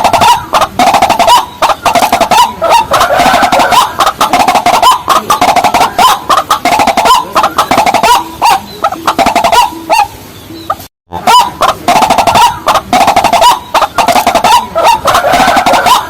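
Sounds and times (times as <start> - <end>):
birds clucking: 0.0 - 16.0.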